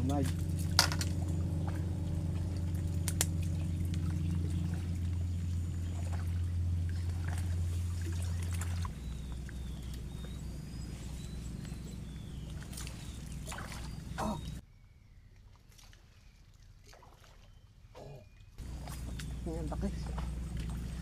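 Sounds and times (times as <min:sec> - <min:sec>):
low motor drone: 0:00.0 - 0:14.6, 0:18.6 - 0:21.0
water trickling: 0:00.0 - 0:14.6, 0:18.6 - 0:21.0.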